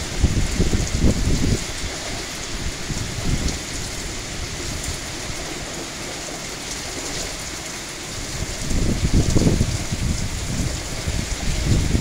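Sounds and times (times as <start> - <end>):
heavy rain pouring: 0.0 - 12.0
wind: 0.0 - 12.0.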